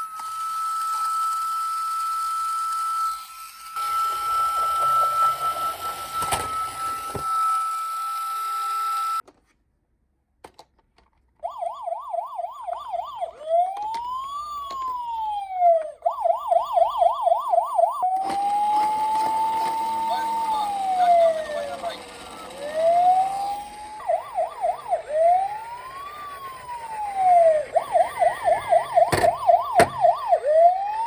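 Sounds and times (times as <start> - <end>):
toy police siren: 0.0 - 9.2, 11.4 - 31.0.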